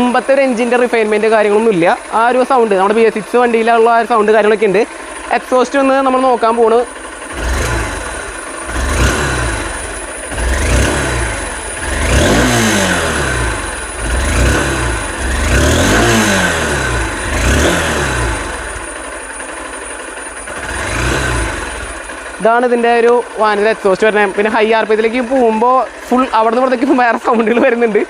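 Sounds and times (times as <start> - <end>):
motorcycle engine idling: 0.0 - 28.0
motorcycle engine revving: 0.0 - 28.0.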